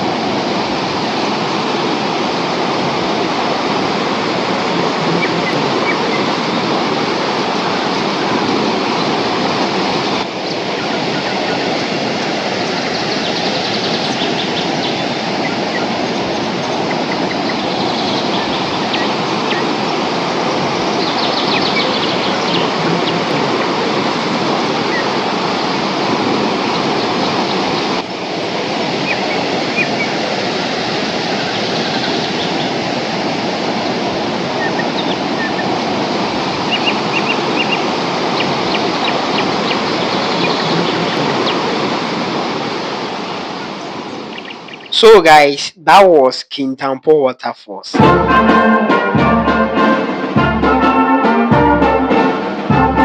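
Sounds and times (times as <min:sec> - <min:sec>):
waterfall rushing: 0:00.0 - 0:45.6, 0:48.0 - 0:53.0.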